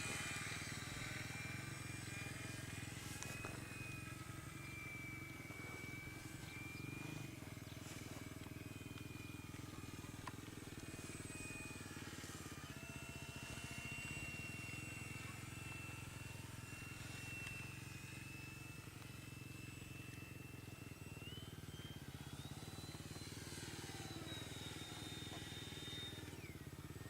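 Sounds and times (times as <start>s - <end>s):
high wavering whine: 0.0s - 27.0s
propeller plane engine drone: 0.0s - 27.0s.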